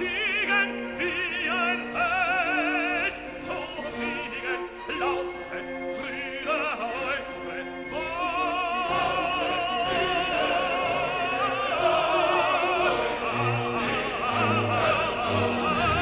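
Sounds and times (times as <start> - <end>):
operatic singing with accompaniment: 0.0 - 16.0.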